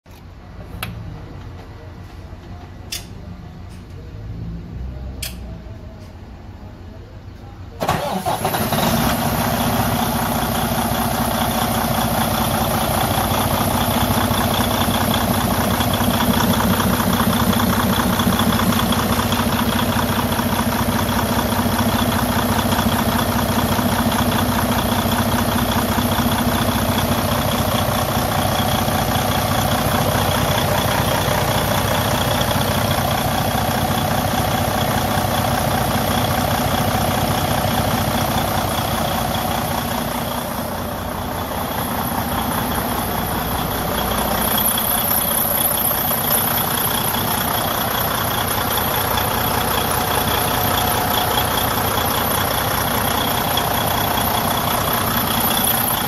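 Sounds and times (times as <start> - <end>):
diesel engine idling: 0.2 - 56.0.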